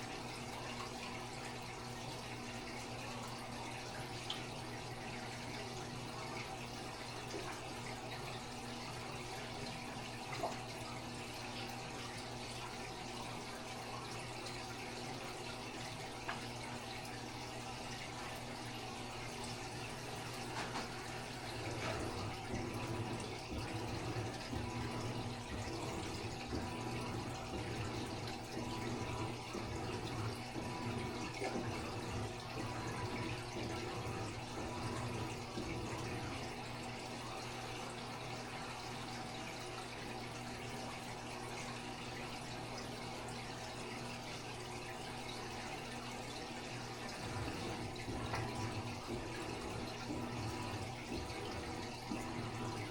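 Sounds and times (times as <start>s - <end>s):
aquarium filter water trickling: 0.0s - 52.9s
low steady hum: 0.0s - 52.9s.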